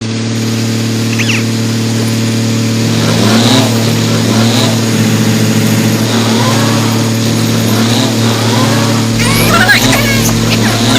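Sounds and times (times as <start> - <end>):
vehicle engine revving: 0.0 - 10.9.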